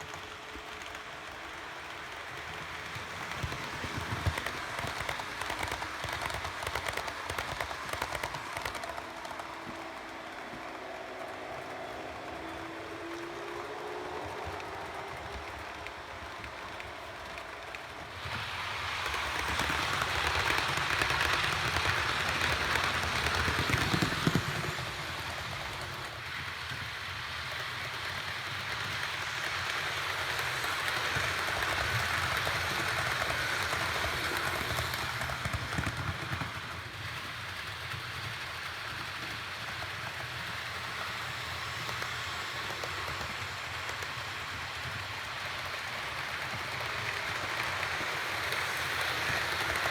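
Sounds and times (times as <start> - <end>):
model train wheels on rails: 0.0 - 49.9.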